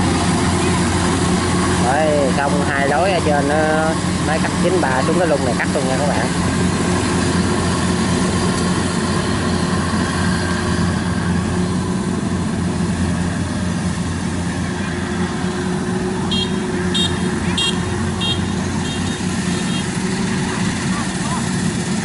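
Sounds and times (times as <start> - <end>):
harvester diesel engine drone: 0.0 - 22.0.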